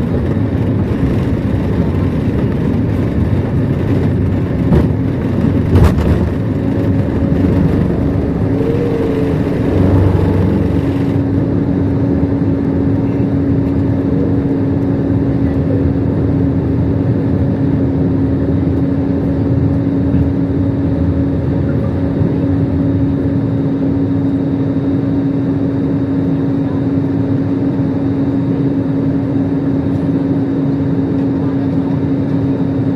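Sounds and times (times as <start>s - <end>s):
jet engines droning in cabin: 0.0s - 32.9s.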